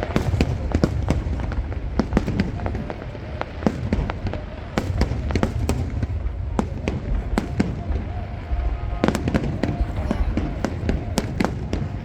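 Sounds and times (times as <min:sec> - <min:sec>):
fireworks bangs and crackles: 0:00.0 - 0:12.0
steady low rumble: 0:00.0 - 0:12.0.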